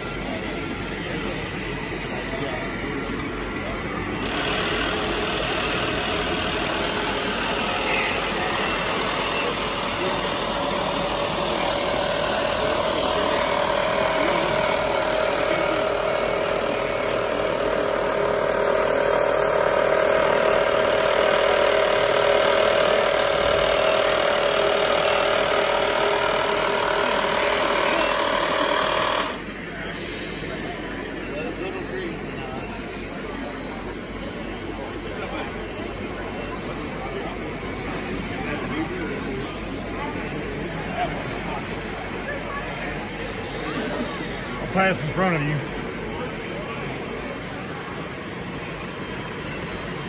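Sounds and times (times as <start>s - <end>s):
machine hum with held tone: 0.0s - 50.0s
murmur of voices: 0.0s - 50.0s.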